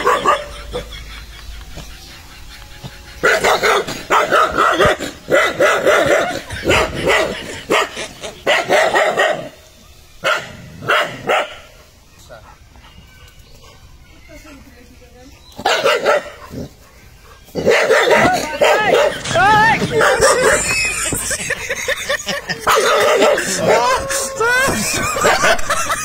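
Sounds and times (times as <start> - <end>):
dogs barking aggressively: 0.0 - 9.6, 10.2 - 12.8, 15.4 - 26.0.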